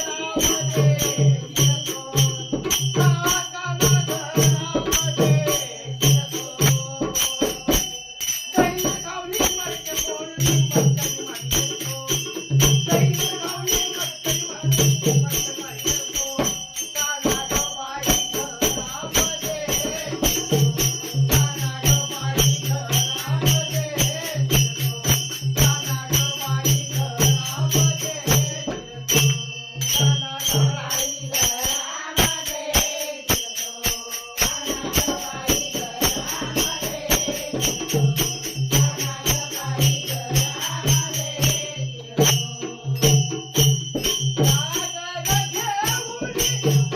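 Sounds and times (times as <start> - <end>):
small cymbals jingling: 0.0 - 46.9.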